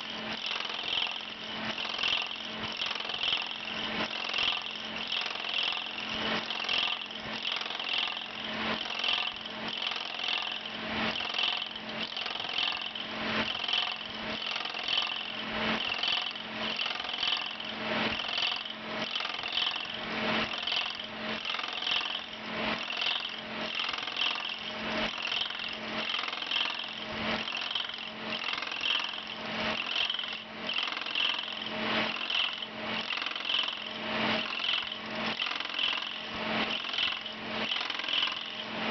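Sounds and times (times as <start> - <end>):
lathe cutterhead whirring and chipping: 0.0 - 38.9.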